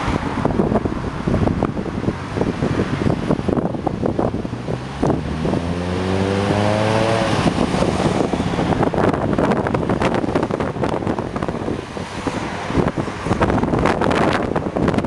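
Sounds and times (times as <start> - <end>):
passing vehicle engine hum: 0.0 - 15.0
wind buffeting microphone: 0.0 - 15.0.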